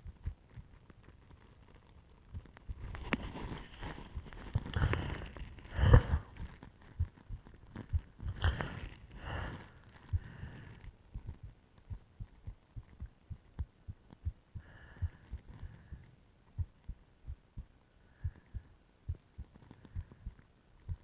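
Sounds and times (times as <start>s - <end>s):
heartbeat through stethoscope: 2.3s - 21.0s.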